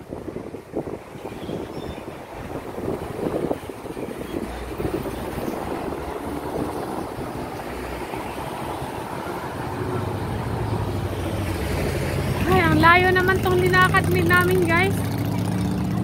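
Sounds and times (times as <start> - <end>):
road traffic: 0.0 - 16.0
wind buffeting microphone: 0.0 - 16.0.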